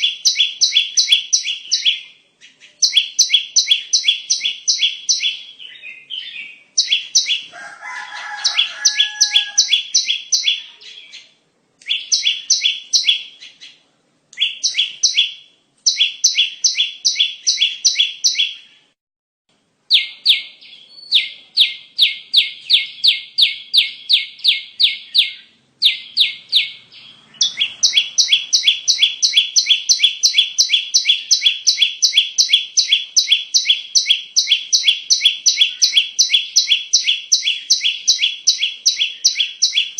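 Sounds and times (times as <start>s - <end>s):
bird chirping in fast runs: 0.0s - 2.0s, 2.8s - 7.6s, 8.3s - 10.6s, 11.9s - 13.7s, 14.4s - 18.7s, 21.0s - 39.9s.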